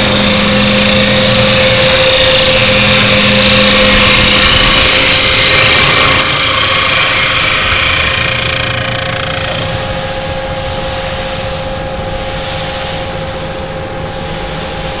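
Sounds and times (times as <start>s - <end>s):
lathe cutting hiss: 0.0s - 15.0s
machine hum with whine: 0.0s - 15.0s.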